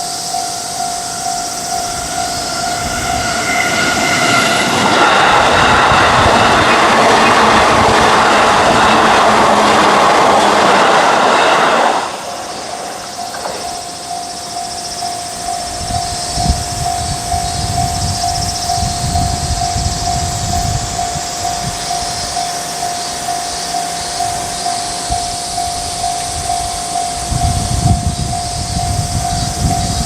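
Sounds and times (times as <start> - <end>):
electric train passing: 0.0 - 30.0
level crossing alarm ringing: 0.0 - 30.0.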